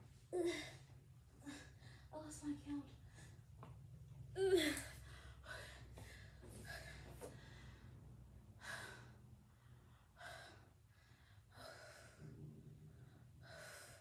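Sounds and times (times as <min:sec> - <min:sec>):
woman breathing hard and gasping: 0:00.3 - 0:02.2, 0:04.4 - 0:14.0.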